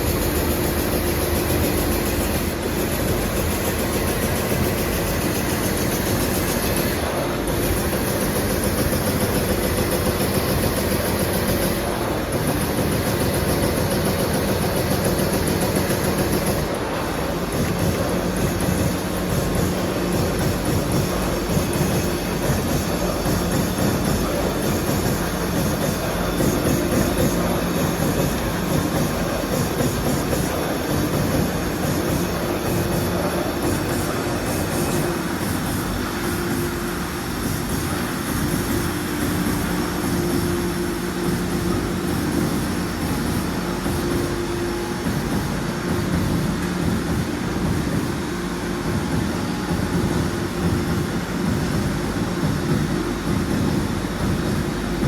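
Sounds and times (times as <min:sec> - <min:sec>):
punch press running: 0:00.0 - 0:55.0
steady hum: 0:00.0 - 0:55.0.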